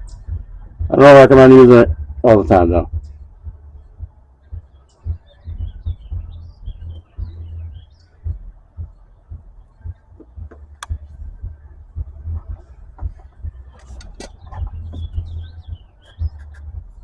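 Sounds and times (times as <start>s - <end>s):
birds chirping: 0.0s - 17.0s
low thumps and rumble: 0.0s - 17.0s.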